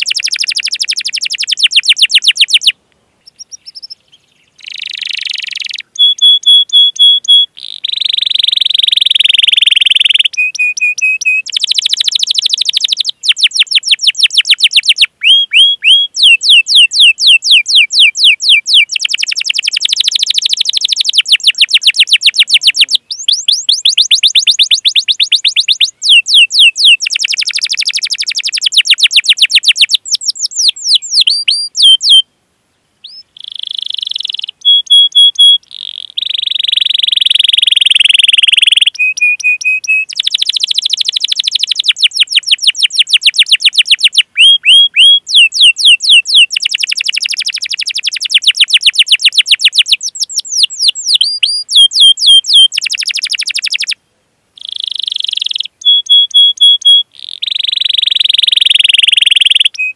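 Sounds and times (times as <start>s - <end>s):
canary singing: 0.0s - 32.3s, 33.0s - 54.0s, 54.6s - 59.9s.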